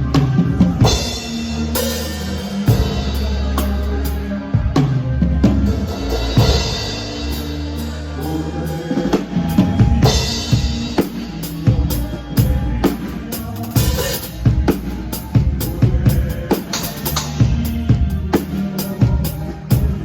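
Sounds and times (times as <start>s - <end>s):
bass line: 0.0s - 20.0s
drum kit beat: 0.0s - 20.0s
live band music: 0.0s - 20.0s.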